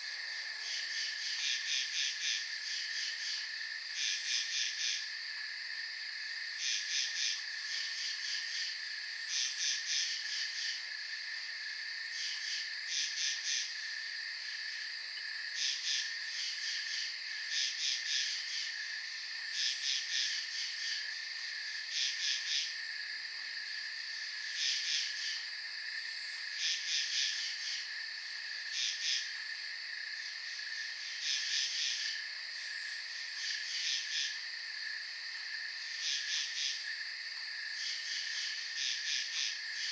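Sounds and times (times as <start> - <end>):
steady cricket trill: 0.0 - 39.9.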